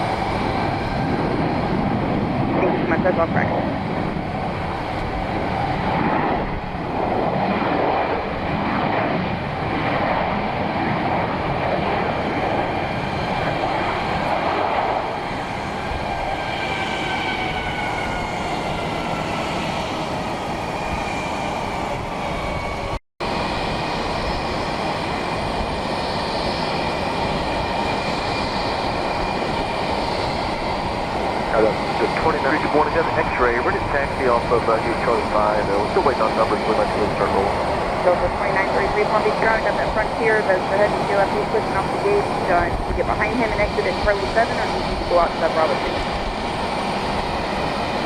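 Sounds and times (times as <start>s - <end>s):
jet engines running: 0.0s - 48.0s.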